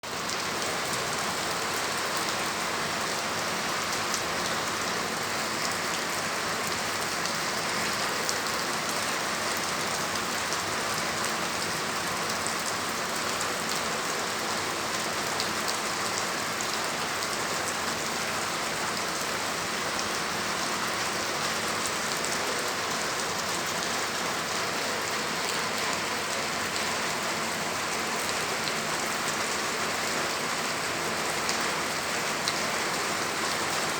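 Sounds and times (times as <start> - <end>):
rain pattering on surfaces: 0.1 - 33.9.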